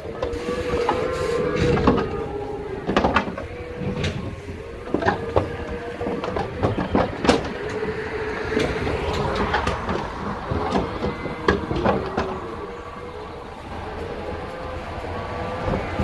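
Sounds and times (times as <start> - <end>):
metallic clanks of trailer gates: 0.0 - 16.0
steady mechanical hum: 0.0 - 16.0.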